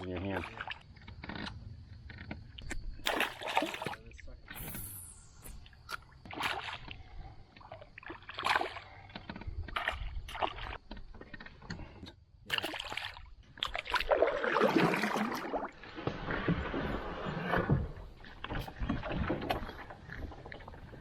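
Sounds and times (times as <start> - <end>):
water splashing: 0.0 - 1.5, 3.0 - 11.4, 12.5 - 21.0.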